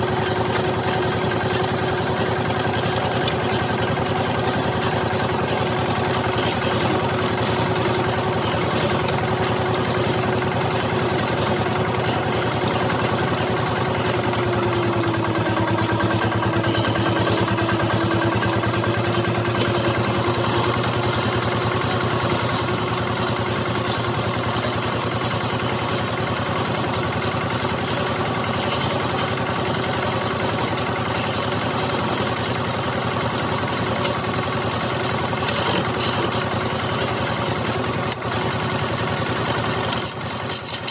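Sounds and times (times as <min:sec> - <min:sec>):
wood lathe drone: 0:00.0 - 0:40.9.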